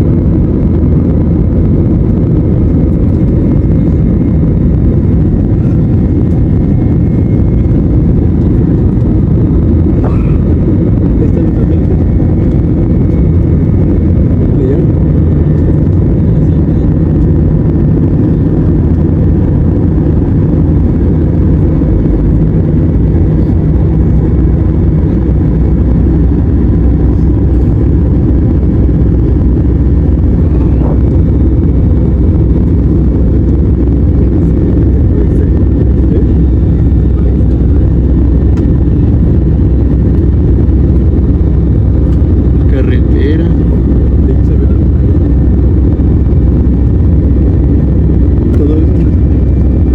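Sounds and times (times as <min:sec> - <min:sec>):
vehicle rumbling in motion: 0:00.0 - 0:49.9.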